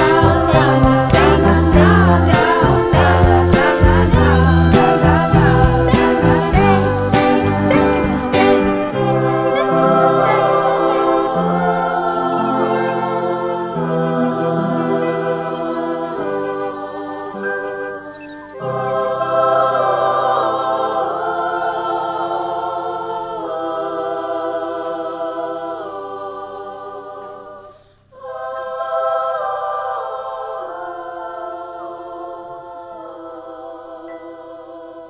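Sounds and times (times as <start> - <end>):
wordless choir-like voices: 0.0 - 35.0.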